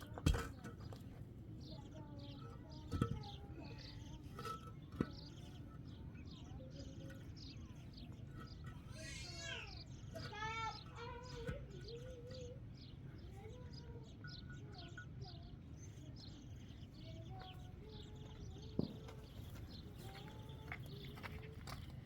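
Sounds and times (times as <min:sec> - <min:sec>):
small birds chirping: 0:00.0 - 0:22.0
wavering bird calls: 0:01.6 - 0:21.9.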